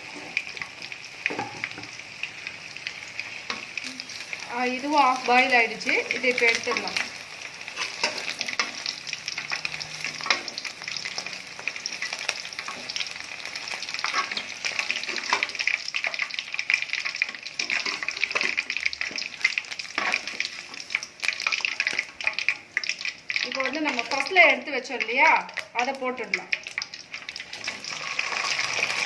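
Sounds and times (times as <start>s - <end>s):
chicken deep-frying in oil: 0.0s - 29.0s.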